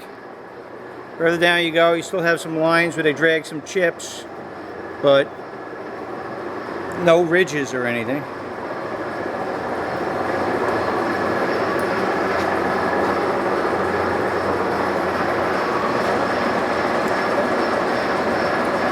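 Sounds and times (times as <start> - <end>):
lathe running: 0.0 - 18.9.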